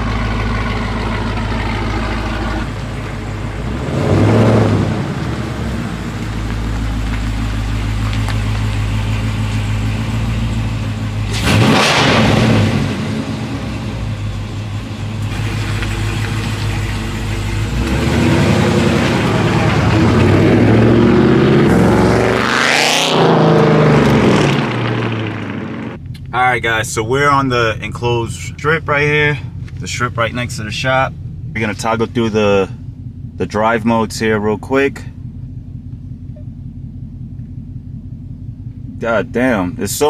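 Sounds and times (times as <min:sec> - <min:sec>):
car engine running: 0:00.0 - 0:11.6, 0:12.7 - 0:40.0.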